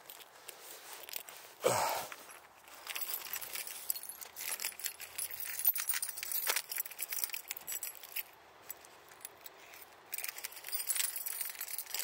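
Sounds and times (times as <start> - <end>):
car keys jangling: 2.1 - 12.0.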